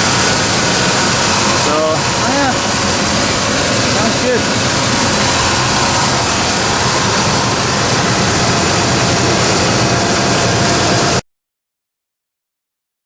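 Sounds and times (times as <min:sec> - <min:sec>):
truck engine idling: 0:00.0 - 0:11.1.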